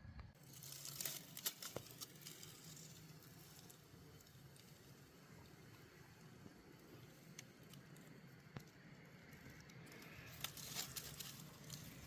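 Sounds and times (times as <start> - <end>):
crackling rustle: 0.3 - 12.0.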